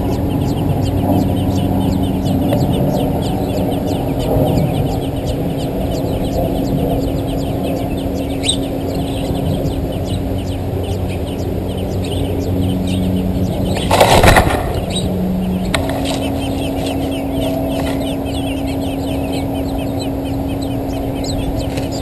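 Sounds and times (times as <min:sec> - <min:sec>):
low hum: 0:00.0 - 0:22.0
nestling birds begging calls: 0:00.0 - 0:22.0.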